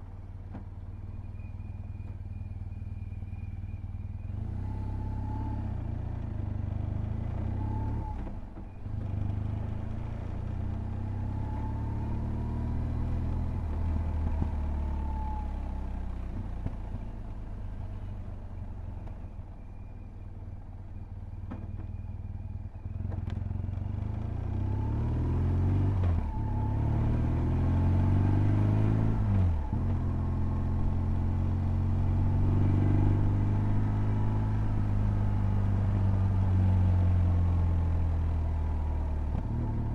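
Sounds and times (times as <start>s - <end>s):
motorcycle engine accelerating: 4.2s - 19.2s, 22.8s - 39.9s.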